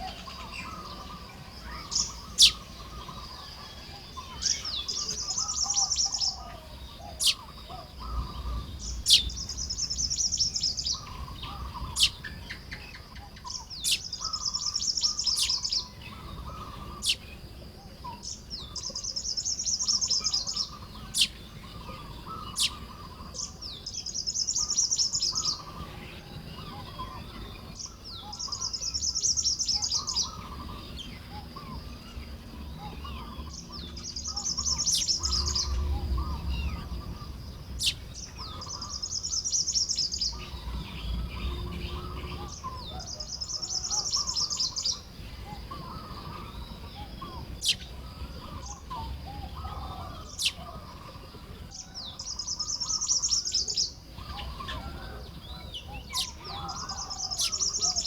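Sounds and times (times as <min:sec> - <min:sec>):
birds chattering chirps: 0:00.0 - 0:58.0
rattling buzz of birdsong: 0:00.0 - 0:58.0.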